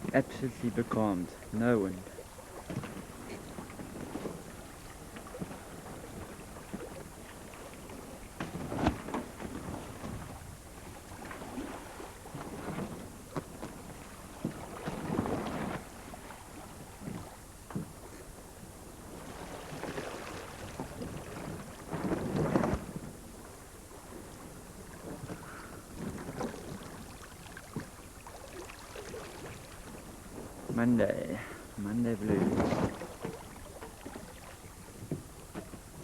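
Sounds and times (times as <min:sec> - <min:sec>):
water sloshing against hull: 0:00.0 - 0:36.0.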